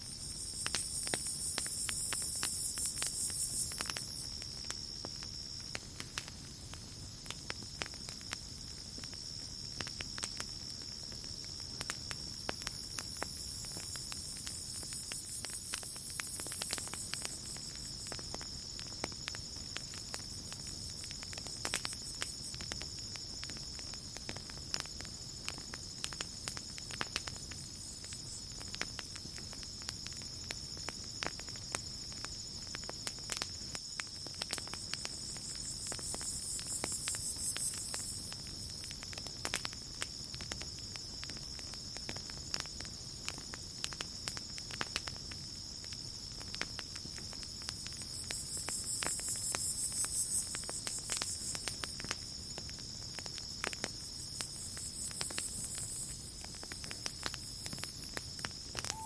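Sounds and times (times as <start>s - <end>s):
campfire crackling: 0.0s - 59.0s
crickets chirping: 0.0s - 59.0s
pulsing insect chorus: 0.0s - 59.0s.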